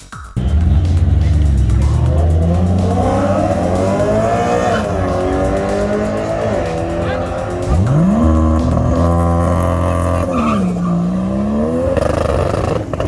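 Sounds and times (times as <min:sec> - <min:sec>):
car engine revving hard: 0:00.4 - 0:13.0.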